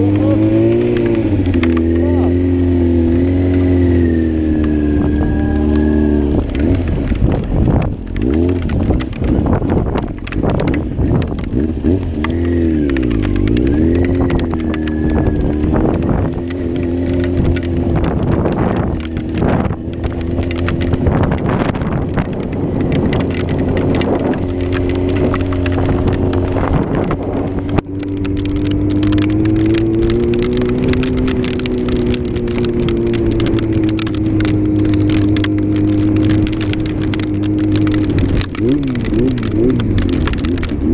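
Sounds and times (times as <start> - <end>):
motorcycle engine running: 0.0 - 40.9
wind crackling on microphone: 0.0 - 40.9.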